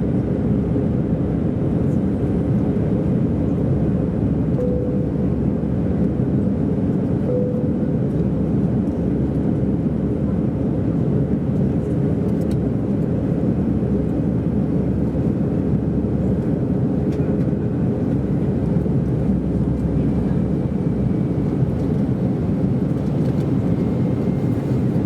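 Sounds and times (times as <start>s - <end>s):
airplane cabin roar: 0.0s - 25.0s.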